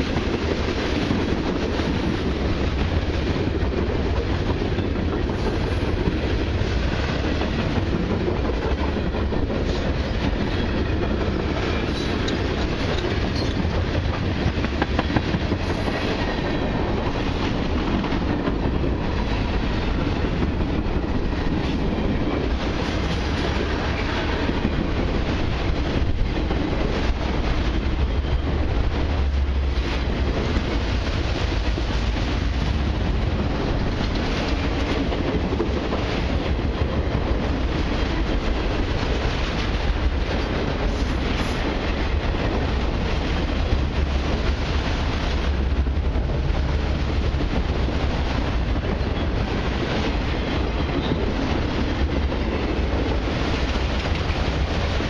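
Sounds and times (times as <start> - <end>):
clickety-clack over rail joints: 0.0 - 55.0
steel wheels rumbling on rail: 0.0 - 55.0.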